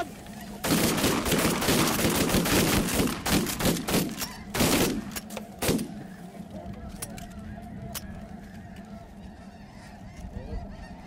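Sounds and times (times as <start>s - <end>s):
geese calling: 0.0s - 11.0s.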